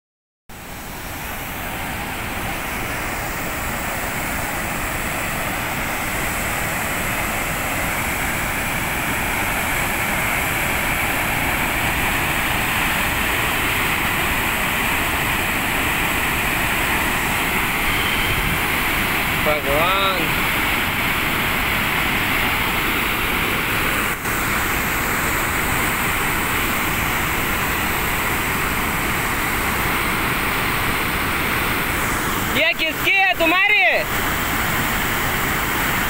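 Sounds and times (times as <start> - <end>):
floodwater rushing over rocks: 0.6 - 36.0.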